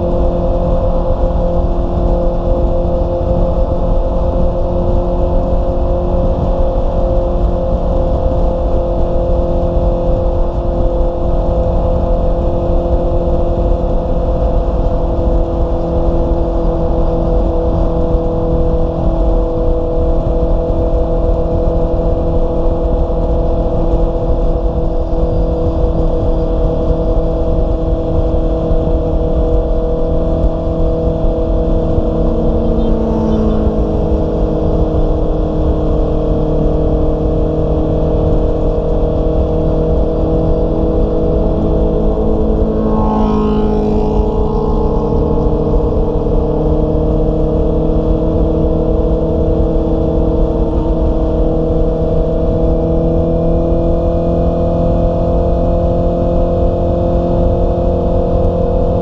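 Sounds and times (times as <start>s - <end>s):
motorcycle engine cruising: 0.0s - 59.0s
wind rumbling on microphone: 0.0s - 59.0s.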